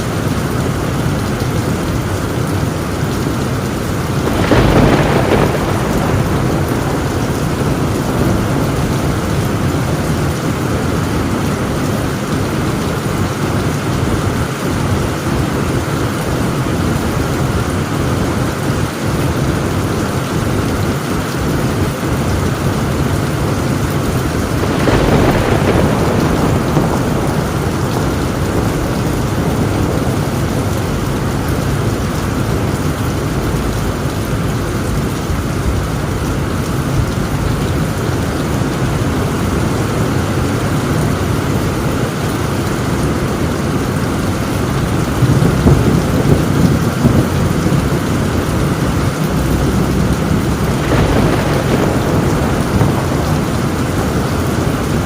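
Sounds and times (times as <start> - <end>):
heavy rain on a tin roof: 0.0 - 55.0
rolling thunder: 0.0 - 55.0.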